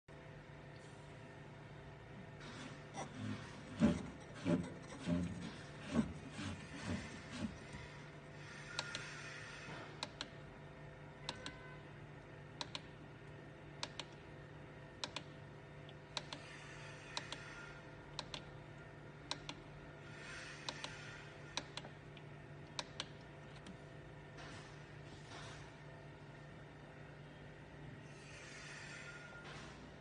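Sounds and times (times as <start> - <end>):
humidifier humming: 0.1 - 28.0.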